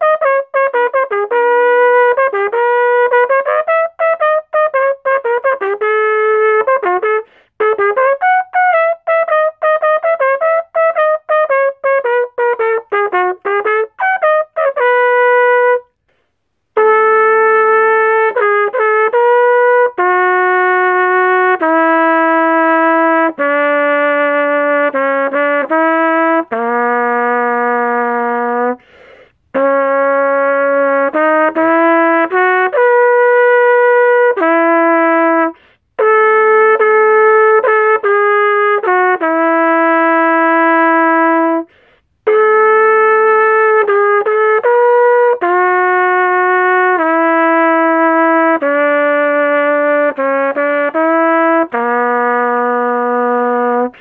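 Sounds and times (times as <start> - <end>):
solo cornet melody: 0.0 - 54.0.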